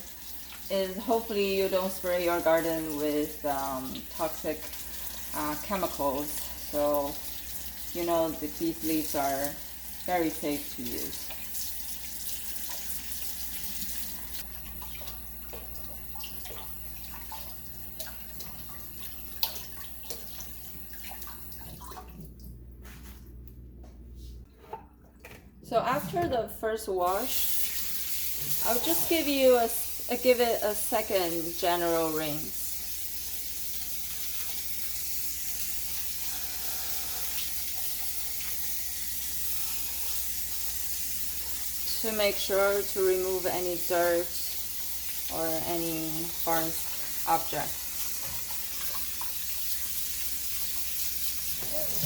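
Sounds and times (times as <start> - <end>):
kitchen tap running: 0.0 - 22.6, 26.0 - 52.0.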